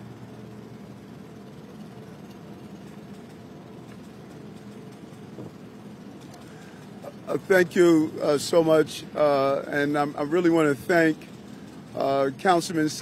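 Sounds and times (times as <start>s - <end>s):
engine idling: 0.0s - 13.0s
outdoor street noise: 0.0s - 13.0s.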